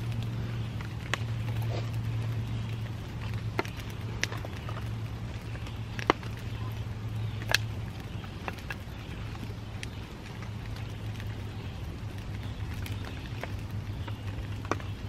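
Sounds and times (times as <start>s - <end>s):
campfire crackling and popping: 0.0s - 15.0s
steady low hum: 0.0s - 15.0s.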